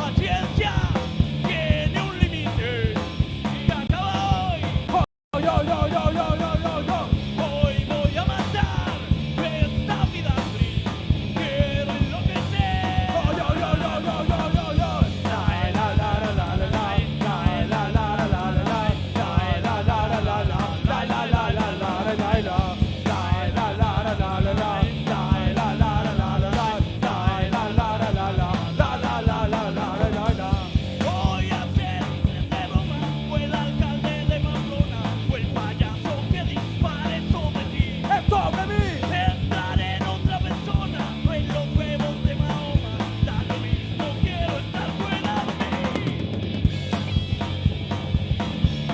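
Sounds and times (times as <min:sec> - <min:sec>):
punk rock band playing: 0:00.0 - 0:48.9.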